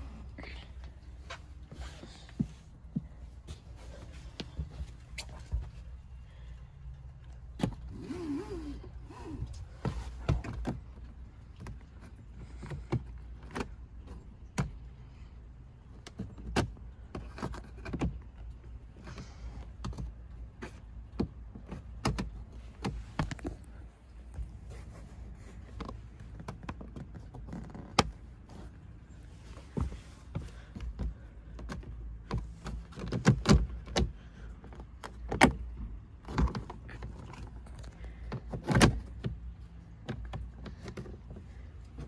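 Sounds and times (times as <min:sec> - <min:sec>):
low steady rumble: 0:00.0 - 0:42.0.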